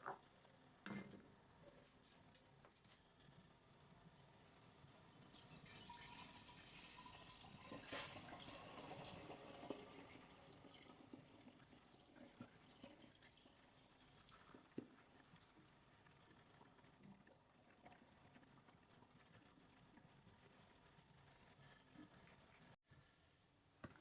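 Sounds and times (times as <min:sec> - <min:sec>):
faint running water: 0:02.8 - 0:22.8.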